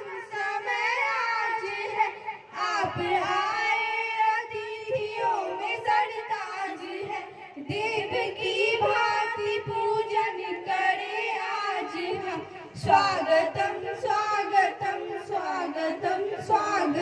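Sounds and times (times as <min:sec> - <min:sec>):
girls singing through pa: 0:00.0 - 0:17.0.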